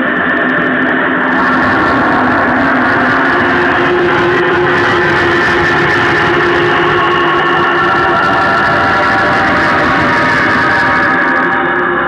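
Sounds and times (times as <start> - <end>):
synthesized drone of held tones: 0.0 - 12.0.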